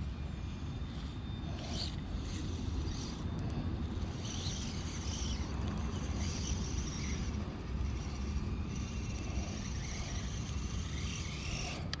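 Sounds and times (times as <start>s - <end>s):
small electric motor whining: 0.0s - 12.0s
steady low rumble: 0.0s - 12.0s.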